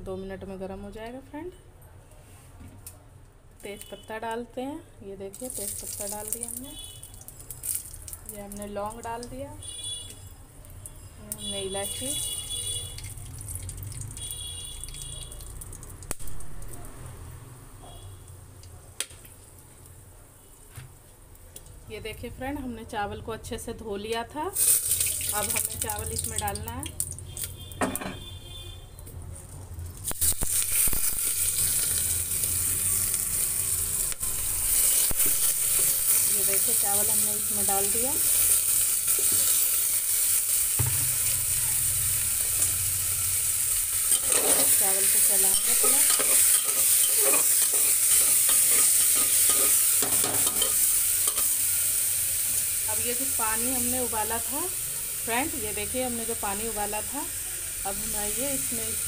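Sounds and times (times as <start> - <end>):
spices crackling in hot oil: 5.2 - 17.2, 17.9 - 59.0.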